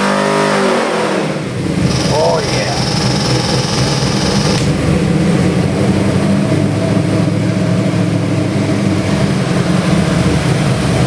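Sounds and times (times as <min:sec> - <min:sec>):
engine idling: 0:01.5 - 0:11.0.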